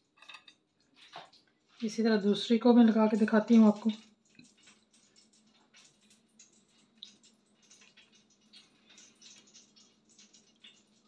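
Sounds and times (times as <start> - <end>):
soft squishes of meat handling: 0.2 - 11.0.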